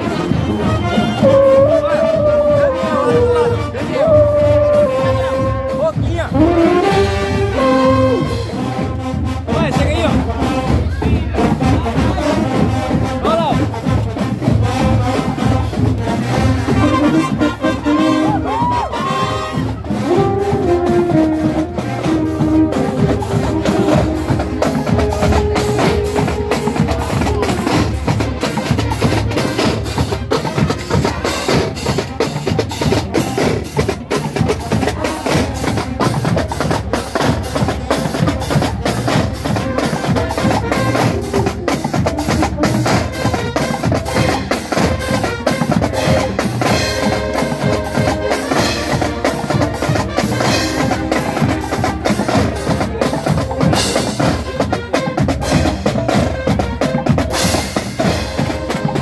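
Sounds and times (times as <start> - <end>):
bass drums: 0.0 - 59.0
brass notes: 0.0 - 59.0
snare drums: 0.0 - 59.0.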